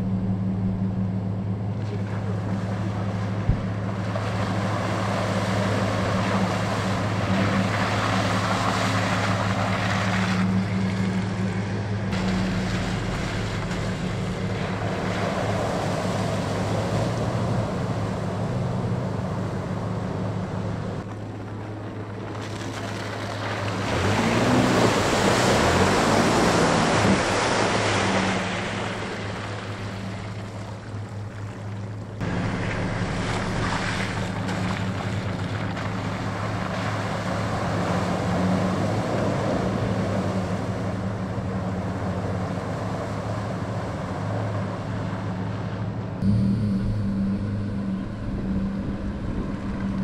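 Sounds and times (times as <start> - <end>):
truck engine hum: 0.0 - 50.0
water and mud splashing: 0.0 - 50.0.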